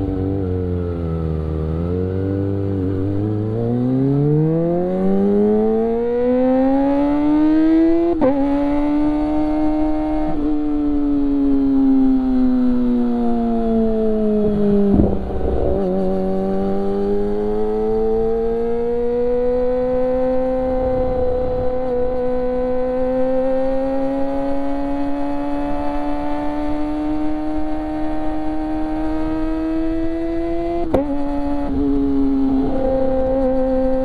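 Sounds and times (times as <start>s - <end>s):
motorcycle engine at high revs: 0.0s - 34.0s.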